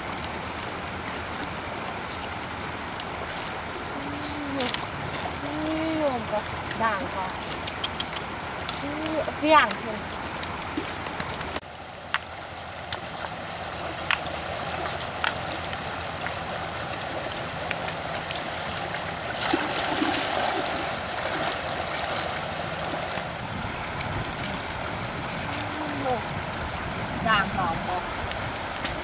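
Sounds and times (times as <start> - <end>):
stream running over rocks: 0.0 - 29.0
wood fire crackling: 0.0 - 29.0.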